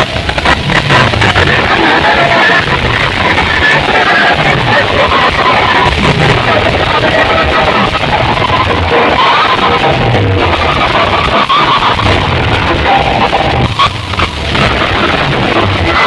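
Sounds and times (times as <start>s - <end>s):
loud distorted dance music: 0.0s - 16.0s.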